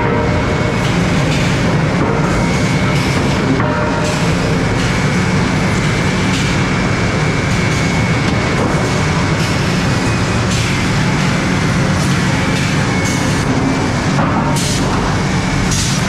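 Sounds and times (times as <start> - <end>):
high machine whine: 0.0 - 16.0
machinery clattering: 0.0 - 16.0
sawmill machinery rumble: 0.0 - 16.0.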